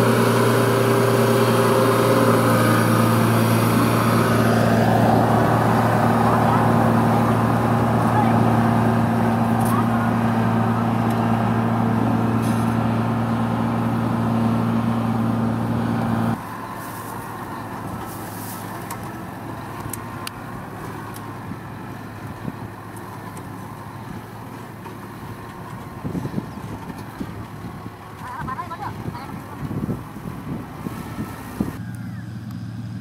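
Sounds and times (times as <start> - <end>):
tractor diesel engine: 0.0 - 33.0.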